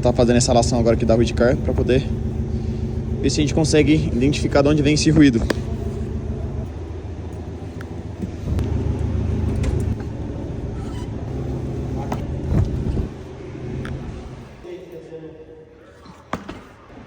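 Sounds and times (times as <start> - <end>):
car engine idling: 0.0 - 14.6.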